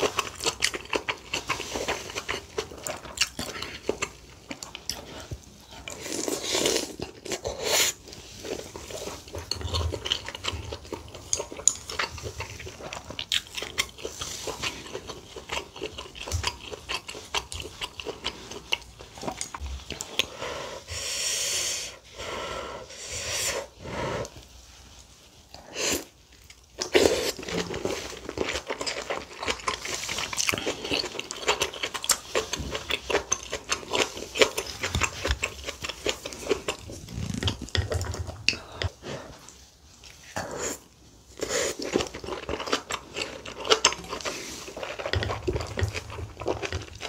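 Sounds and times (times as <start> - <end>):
person chewing food: 0.0 - 21.1, 23.6 - 47.0.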